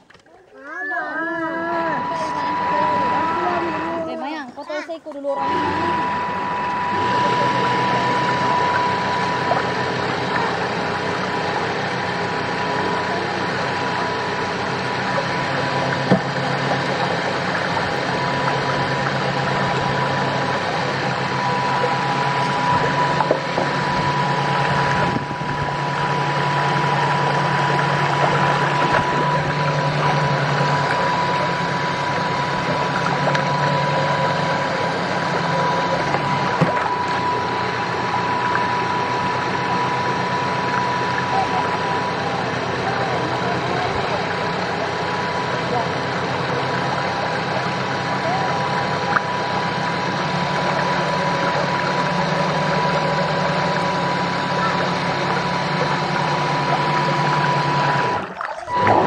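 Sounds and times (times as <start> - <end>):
model boat motor whining: 0.0 - 59.0
water splashing along hull: 1.4 - 59.0.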